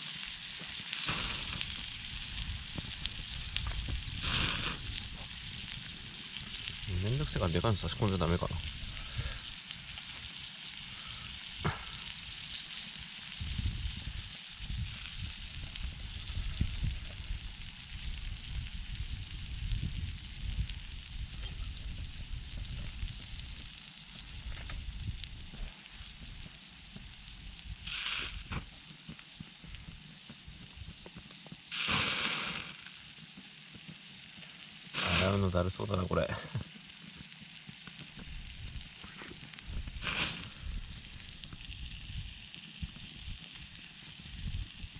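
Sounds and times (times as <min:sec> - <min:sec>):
meat sizzling on a griddle: 0:00.0 - 0:44.9.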